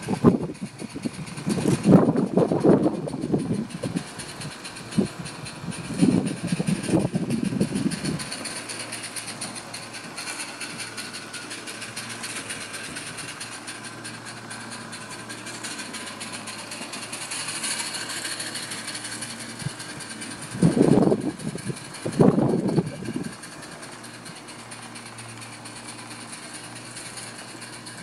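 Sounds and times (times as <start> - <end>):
steam locomotive exhaust beats: 0.0 - 28.0.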